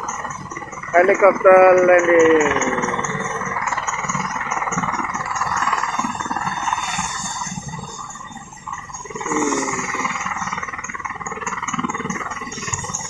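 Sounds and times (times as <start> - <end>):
fast high ticking: 0.0 - 13.0
helicopter rotor whirring: 0.0 - 13.0.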